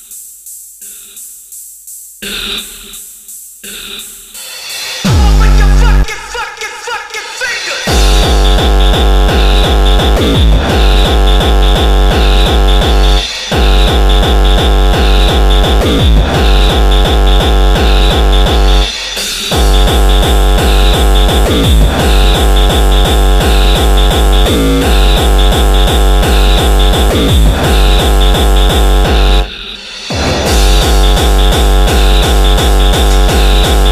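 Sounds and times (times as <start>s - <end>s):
distorted kick drum: 0.0s - 7.1s, 7.8s - 33.9s
hard electronic dance music: 0.0s - 33.9s.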